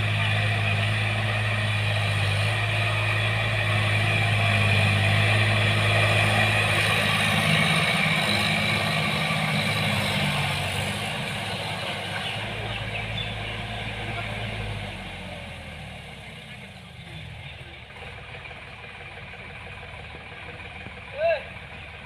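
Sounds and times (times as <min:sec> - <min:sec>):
tractor diesel engine drone: 0:00.0 - 0:22.0.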